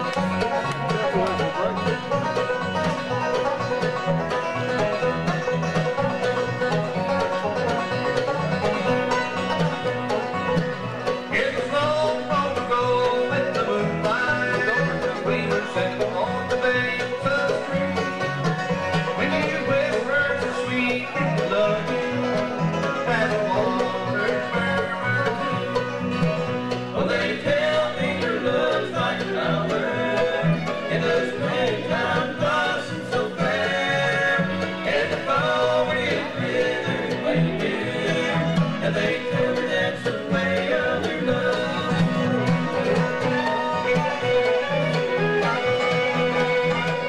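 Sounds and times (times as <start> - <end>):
banjo picking: 0.0 - 47.0
bluegrass band playing: 0.0 - 47.0.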